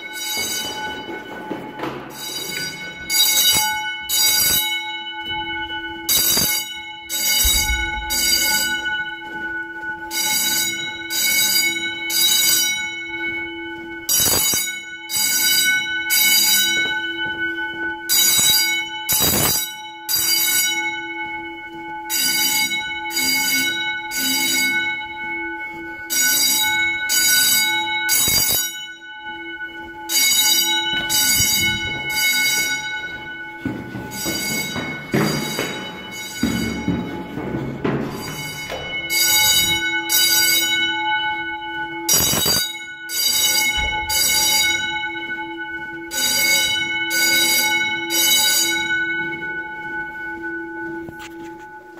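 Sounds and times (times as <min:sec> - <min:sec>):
fire alarm bells ringing: 0:00.0 - 0:51.9.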